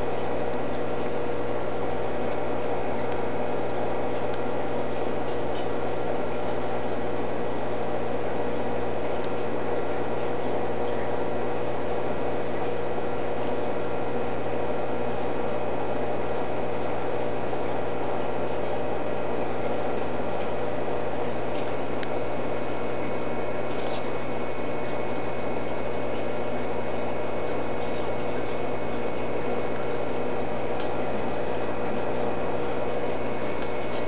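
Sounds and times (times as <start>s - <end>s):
aquarium equipment hum and hiss: 0.0s - 34.0s.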